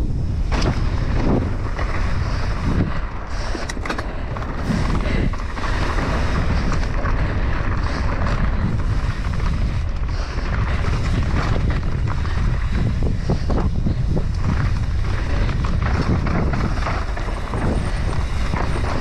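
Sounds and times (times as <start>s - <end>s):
bike rattling over bumps: 0.0s - 19.0s
tyres on loose gravel: 0.0s - 19.0s
wind buffeting microphone: 0.0s - 19.0s.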